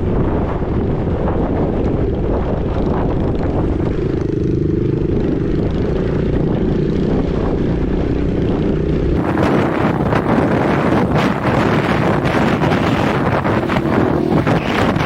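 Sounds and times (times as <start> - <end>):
wind buffeting microphone: 0.0 - 15.0
dirt bike engine running: 0.1 - 15.0.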